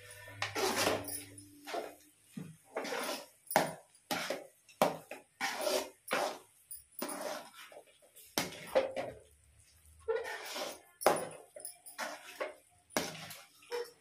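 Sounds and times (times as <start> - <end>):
metal spatula scraping a metal pan: 0.0 - 2.0, 2.7 - 4.5, 5.1 - 9.1, 10.1 - 14.0.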